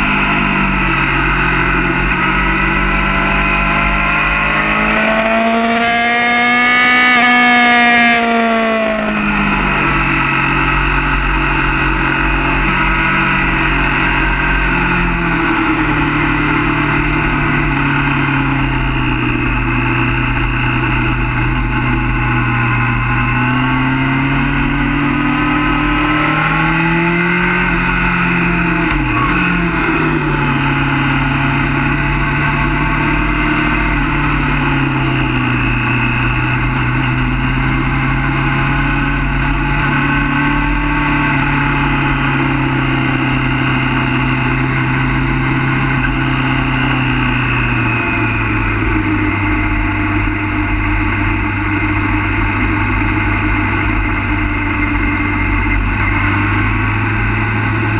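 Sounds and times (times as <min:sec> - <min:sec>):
motorcycle engine at part throttle: 0:00.0 - 0:57.9.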